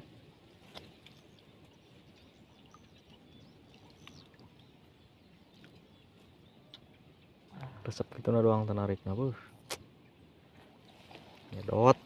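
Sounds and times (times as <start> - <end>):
faint lakeside ambience: 0.0 - 12.0.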